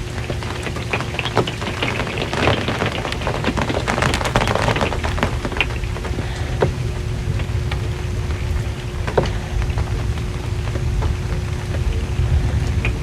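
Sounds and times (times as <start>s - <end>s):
rain on a metal roof: 0.0s - 13.0s
steady low rumble: 0.0s - 13.0s.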